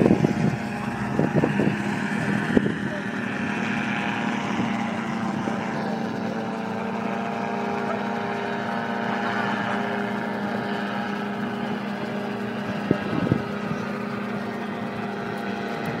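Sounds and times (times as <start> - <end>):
paramotor engine droning: 0.0 - 16.0.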